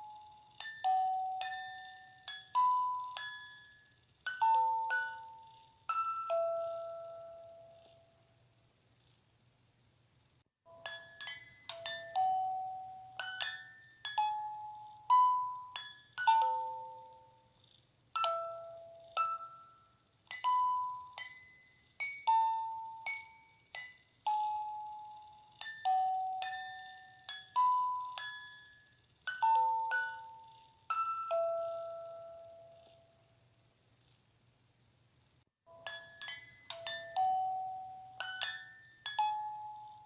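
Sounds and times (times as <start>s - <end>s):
chime lullaby melody: 0.0s - 8.2s, 10.7s - 33.2s, 35.7s - 40.0s.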